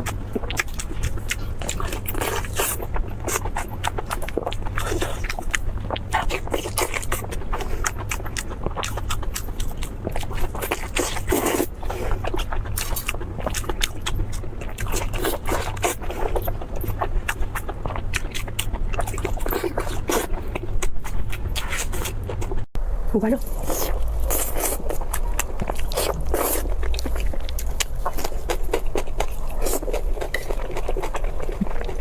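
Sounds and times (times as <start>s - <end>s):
chewing crispy food: 0.0s - 22.7s, 23.5s - 32.0s
low hum: 0.0s - 32.0s.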